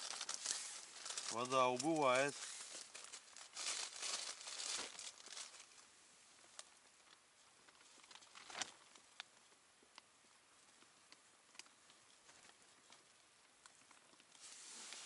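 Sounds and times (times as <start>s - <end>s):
close rustling and crinkling: 0.0s - 9.4s, 10.7s - 15.0s.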